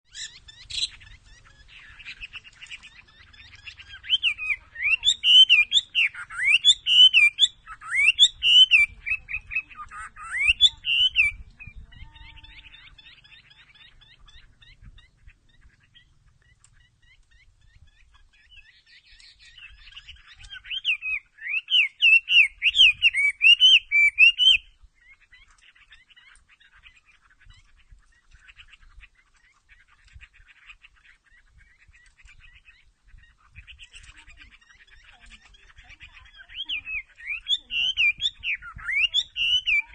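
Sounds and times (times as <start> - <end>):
bird singing and chirping: 0.0 - 39.9.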